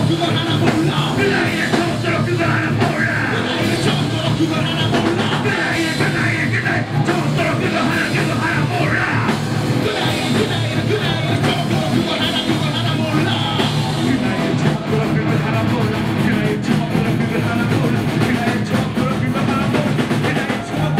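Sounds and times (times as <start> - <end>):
person singing and shouting: 0.0 - 20.9
rock band playing metal: 0.0 - 20.9.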